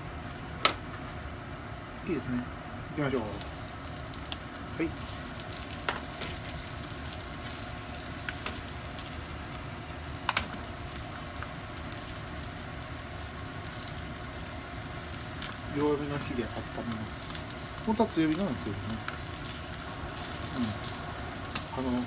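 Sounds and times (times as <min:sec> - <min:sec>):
vegetables sizzling in a frying pan: 0:00.0 - 0:22.0.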